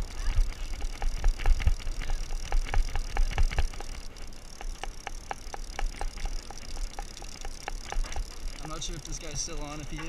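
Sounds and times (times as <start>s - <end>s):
fishing reel gears clicking: 0.0s - 10.0s.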